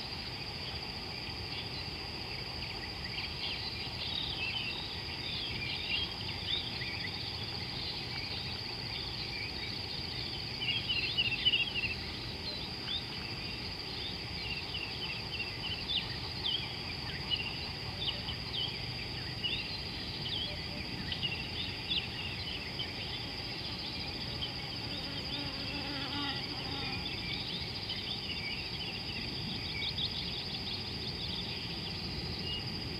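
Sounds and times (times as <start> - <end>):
high insect drone: 0.0 - 32.9.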